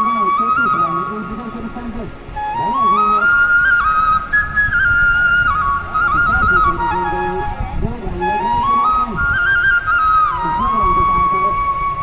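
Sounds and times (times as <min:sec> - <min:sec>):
flute melody: 0:00.0 - 0:12.0.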